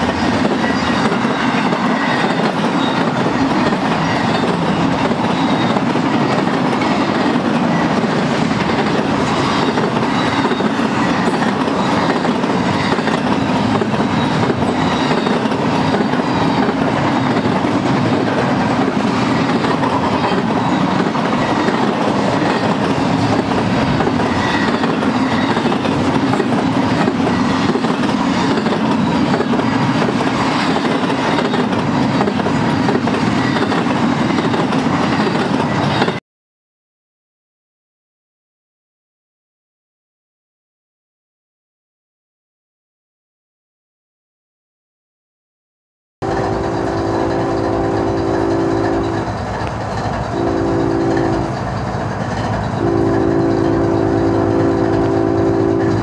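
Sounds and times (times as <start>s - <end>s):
train wheels rumbling on rails: 0.0s - 36.2s, 46.2s - 56.0s.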